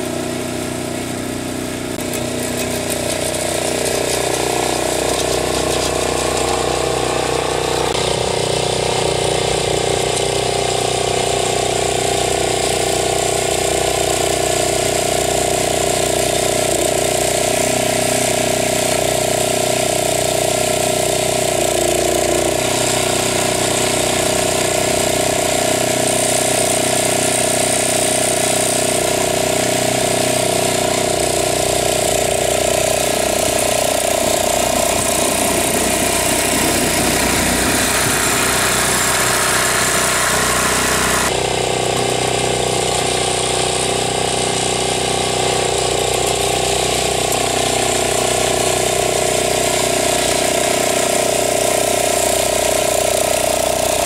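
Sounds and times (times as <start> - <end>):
small tractor engine running: 0.0 - 54.0.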